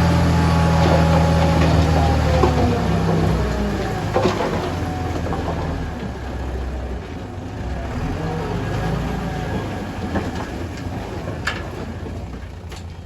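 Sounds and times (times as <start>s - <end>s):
diesel earthmoving machinery droning: 0.0s - 13.0s.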